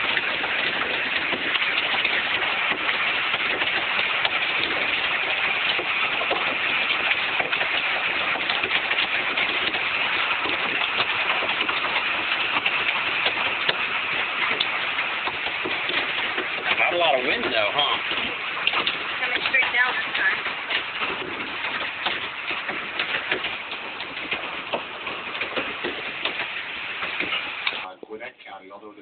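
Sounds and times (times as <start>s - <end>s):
hail falling on water: 0.0s - 27.9s.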